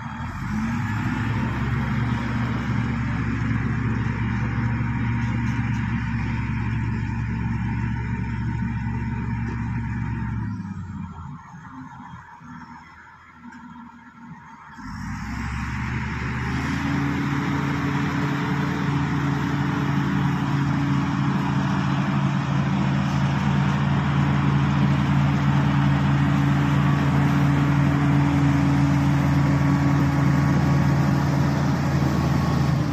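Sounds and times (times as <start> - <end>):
bulldozer diesel engine droning: 0.0 - 32.9.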